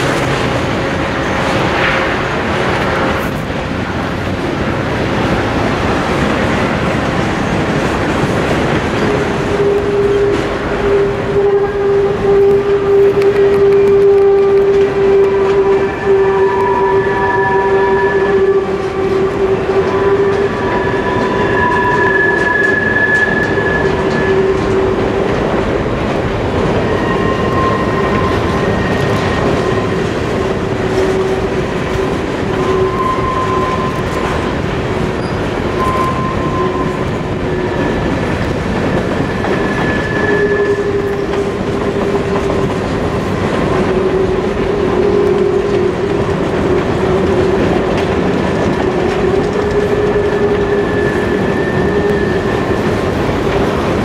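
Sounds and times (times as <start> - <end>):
train wheels rumbling on rails: 0.0 - 54.0
wheels squealing: 4.2 - 54.0.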